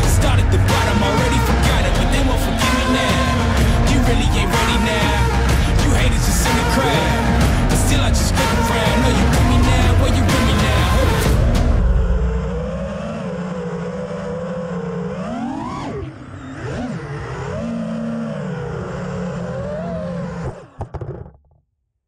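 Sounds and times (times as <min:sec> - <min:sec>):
drone motors whining: 0:00.0 - 0:21.3.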